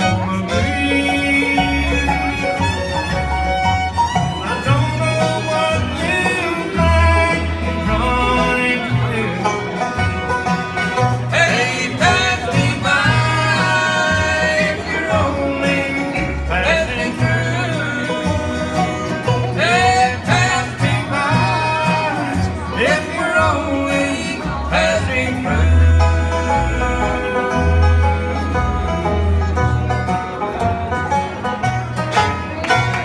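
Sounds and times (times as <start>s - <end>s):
banjo rolls: 0.0s - 33.0s
bass notes: 0.0s - 33.0s
fiddle: 0.0s - 33.0s
guitar: 0.0s - 33.0s.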